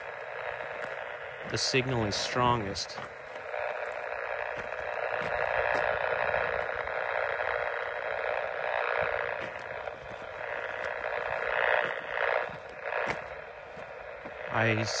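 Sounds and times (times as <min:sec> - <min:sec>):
raspy static buzz from radio: 0:00.0 - 0:15.0.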